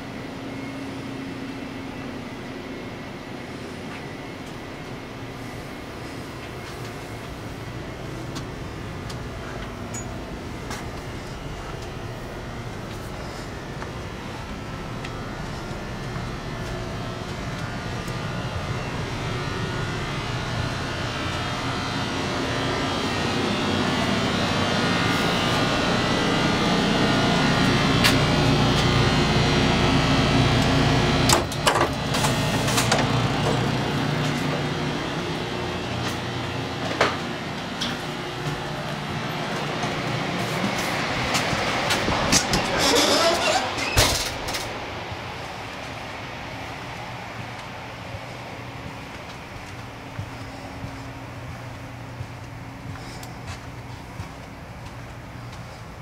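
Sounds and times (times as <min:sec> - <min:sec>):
train ventilation hum: 0:00.0 - 0:56.0.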